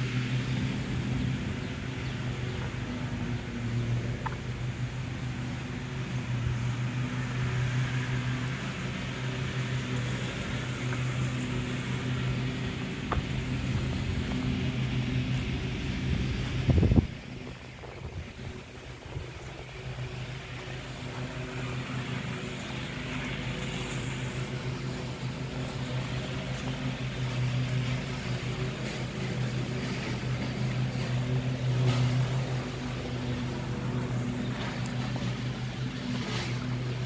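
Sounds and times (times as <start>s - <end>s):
motor hum: 0.0s - 37.0s.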